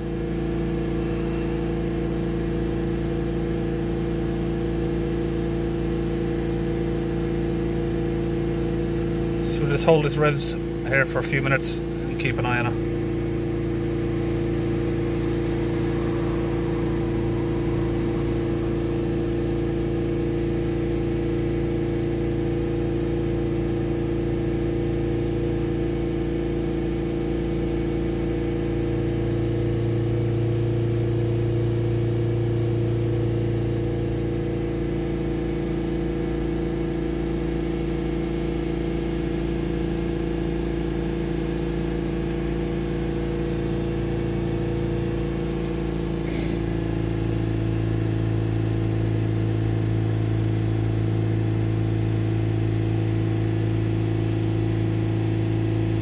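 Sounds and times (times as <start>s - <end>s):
diesel engine running at high revs: 0.0s - 56.0s.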